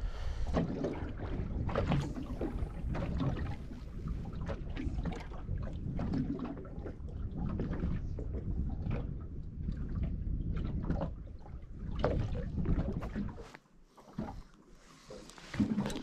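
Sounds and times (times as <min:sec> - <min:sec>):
wind rumbling on microphone: 0:00.0 - 0:13.6
water slapping against boat hull: 0:00.4 - 0:14.5, 0:15.1 - 0:16.0.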